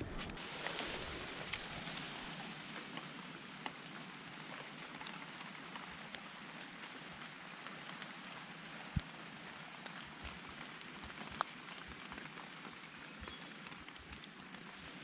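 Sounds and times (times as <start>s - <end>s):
raindrop taps: 0.0s - 14.8s
rain on leaves: 0.0s - 15.0s.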